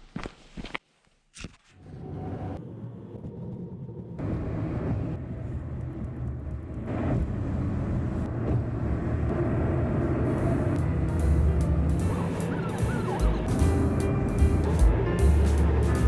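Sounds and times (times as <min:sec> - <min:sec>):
tyre and road noise: 0:01.4 - 0:16.0
car engine hum: 0:01.8 - 0:16.0.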